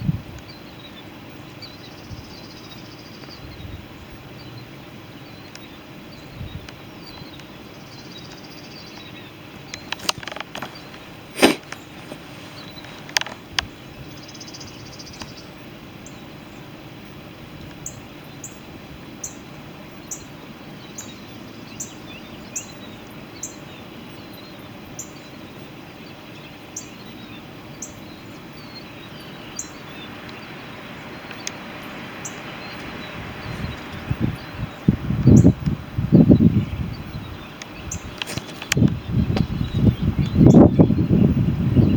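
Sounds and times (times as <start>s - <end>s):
background hiss: 0.0s - 41.7s.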